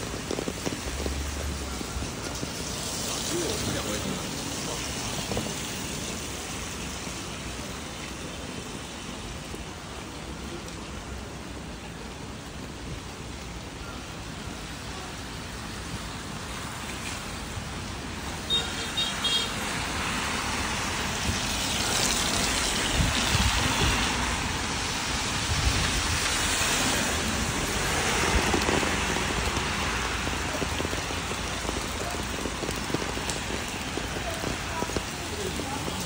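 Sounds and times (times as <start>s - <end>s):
rain falling on street: 0.0s - 36.0s
tyres swishing on wet road: 0.0s - 36.0s.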